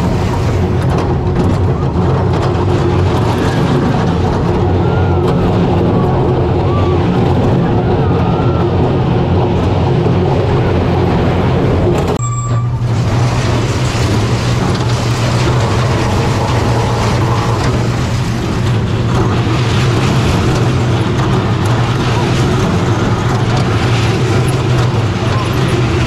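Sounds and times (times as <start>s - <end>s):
roller coaster train rumbling: 0.0s - 26.0s.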